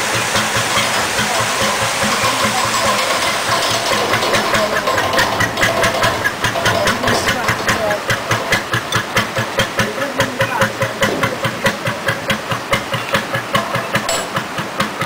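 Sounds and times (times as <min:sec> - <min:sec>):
boat engine at low revs: 0:00.0 - 0:15.0.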